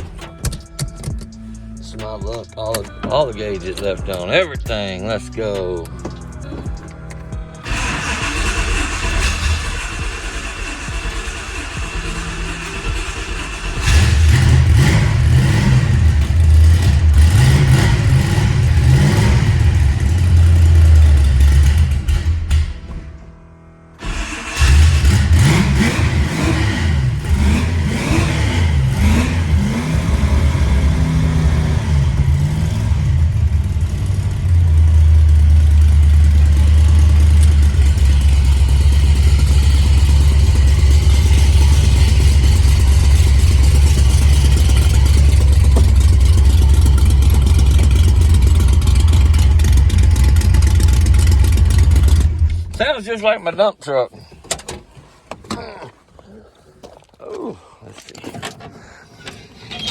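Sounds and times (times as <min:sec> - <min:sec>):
car engine starting and revving: 0:00.0 - 0:53.4
car engine idling: 0:00.0 - 0:56.2.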